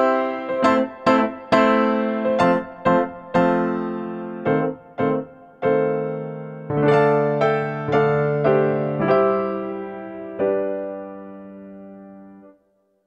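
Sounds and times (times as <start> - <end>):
piano music: 0.0 - 12.7.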